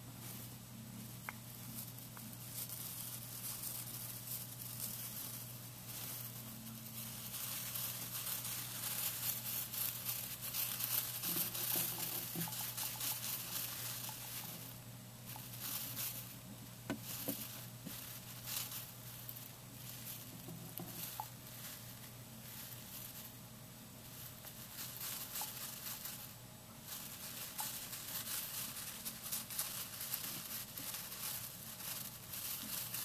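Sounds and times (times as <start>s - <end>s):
hamster scratching in bedding: 0.0s - 33.0s.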